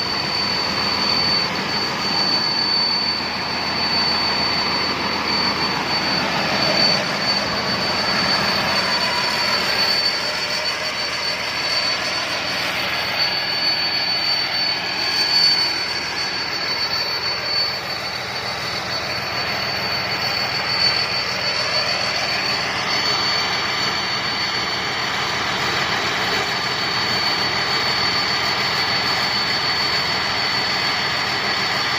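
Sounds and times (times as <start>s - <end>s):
combine harvester engine running: 0.0s - 31.9s
high-pitched machine whine: 0.0s - 31.9s.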